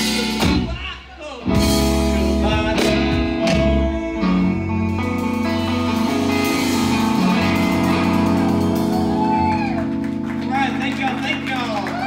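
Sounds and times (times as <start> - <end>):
bass guitar: 0.0 - 12.0
electric guitar chords: 0.0 - 12.0.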